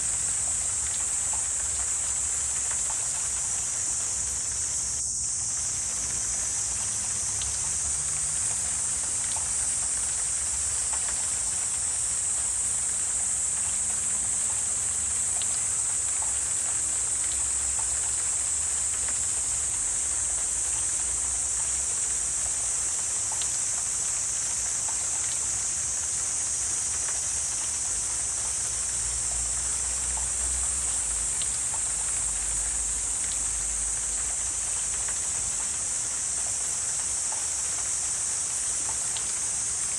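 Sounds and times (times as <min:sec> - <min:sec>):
high-pitched insect chorus: 0:00.0 - 0:39.9
faint ticks: 0:00.2 - 0:05.1, 0:06.0 - 0:39.9.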